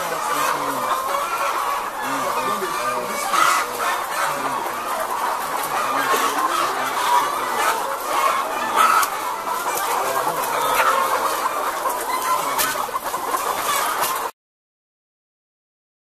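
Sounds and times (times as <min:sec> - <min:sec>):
hens clucking: 0:00.0 - 0:14.4.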